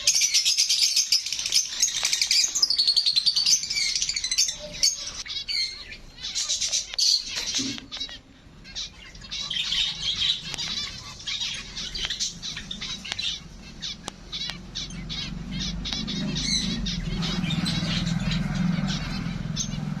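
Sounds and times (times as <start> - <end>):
birds chirping and squawking: 0.0 - 20.0.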